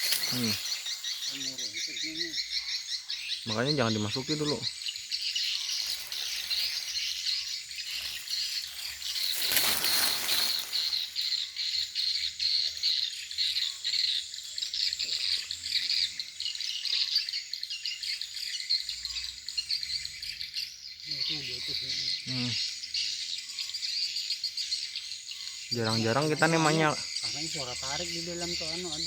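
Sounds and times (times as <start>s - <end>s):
high bird chirping: 0.0s - 29.0s.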